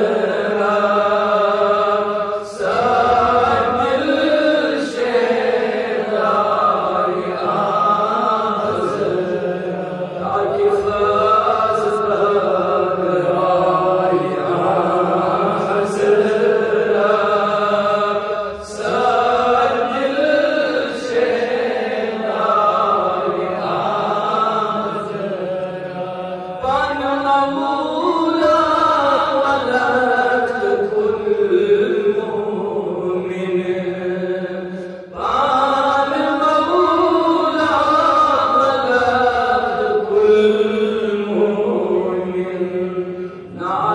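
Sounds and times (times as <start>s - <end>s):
man chanting into a microphone: 0.0s - 43.9s.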